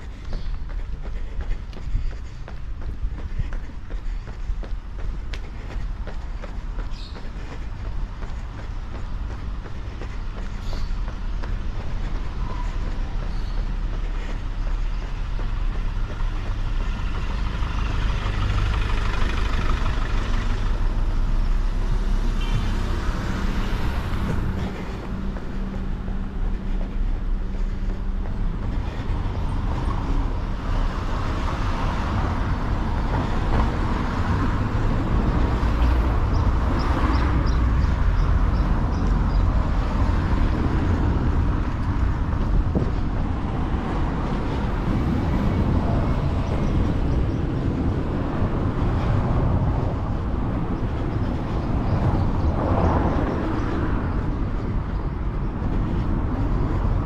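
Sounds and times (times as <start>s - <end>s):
cars and trucks passing: 0.0s - 57.0s
low traffic rumble: 0.0s - 57.0s.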